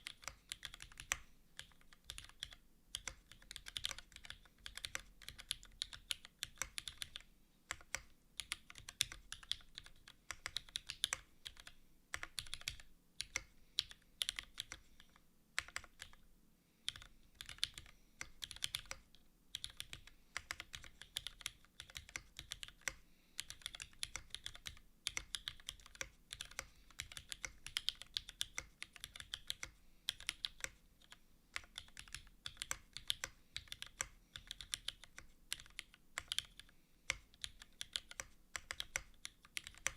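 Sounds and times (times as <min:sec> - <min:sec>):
typing on mechanical keyboard: 0:00.0 - 0:16.2, 0:16.8 - 0:39.9.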